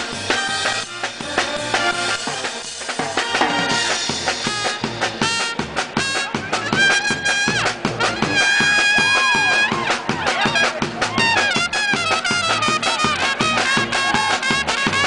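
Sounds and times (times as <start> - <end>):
brass instruments playing: 0.0 - 15.0
drum hits: 1.2 - 15.0.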